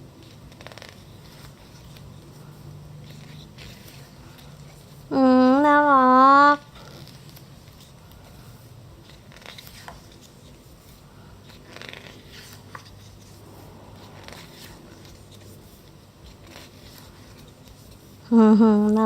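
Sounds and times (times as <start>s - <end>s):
steady low hum: 0.0s - 19.0s
magazine pages rustling: 0.1s - 5.1s, 6.7s - 18.3s.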